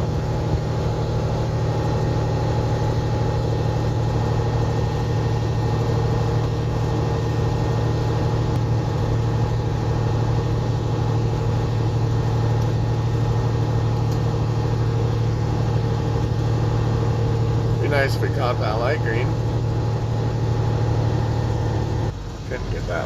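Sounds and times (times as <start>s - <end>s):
truck diesel engine droning: 0.0s - 23.0s.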